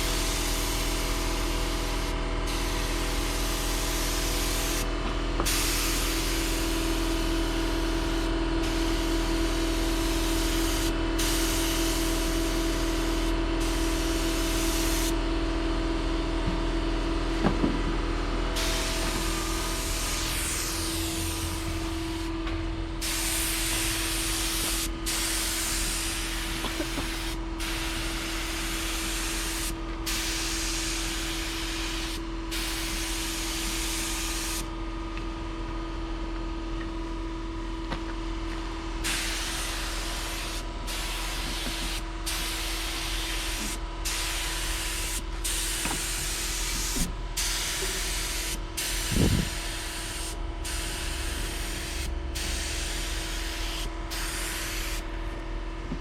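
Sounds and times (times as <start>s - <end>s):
spray gun hissing: 0.0s - 15.2s, 18.6s - 34.7s, 39.0s - 55.0s
steady hum: 0.0s - 56.0s.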